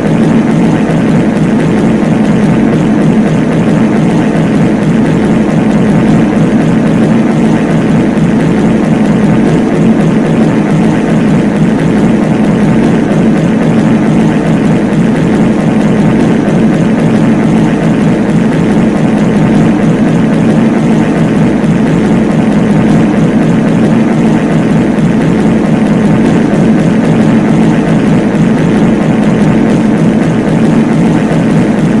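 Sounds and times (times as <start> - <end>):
stacked fart sounds droning: 0.0 - 32.0.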